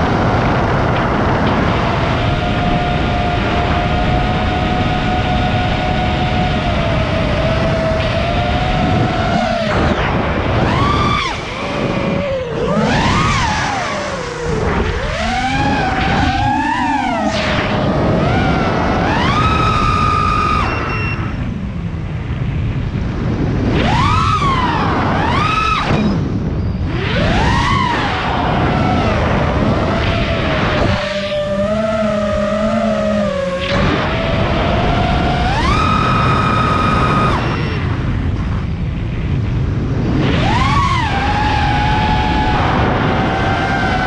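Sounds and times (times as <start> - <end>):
drone motors whining: 0.0 - 44.0
rushing wind: 0.0 - 44.0.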